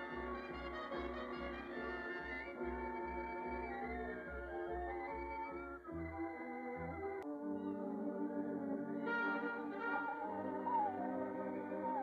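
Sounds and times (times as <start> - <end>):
orchestral cartoon music: 0.0 - 12.0.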